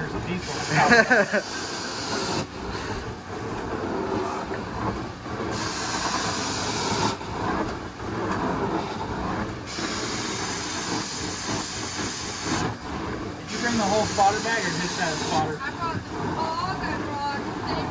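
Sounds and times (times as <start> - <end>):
carpet cleaning wand suction: 0.3 - 3.2, 3.8 - 17.9.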